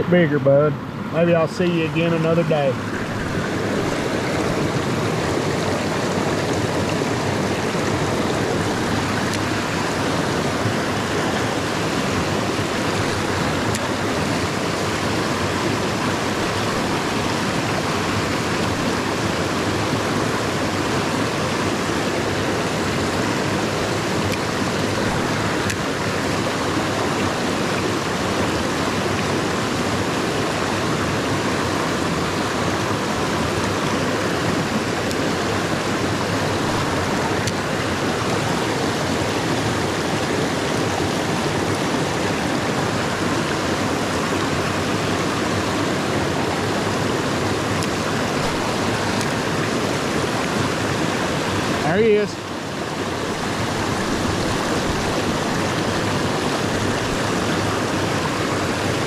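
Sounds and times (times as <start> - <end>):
mountain creek flowing: 0.0 - 59.0.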